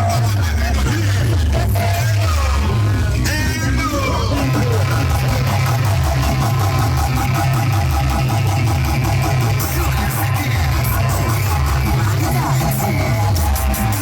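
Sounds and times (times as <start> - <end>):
loud music with heavy bass: 0.0 - 14.0.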